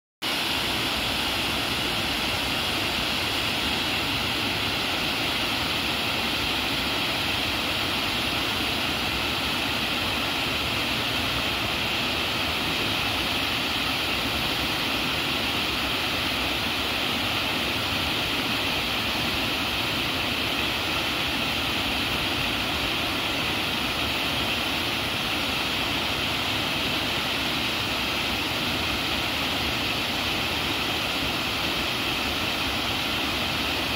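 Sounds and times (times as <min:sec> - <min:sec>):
small waterfall rushing: 0:00.2 - 0:33.9.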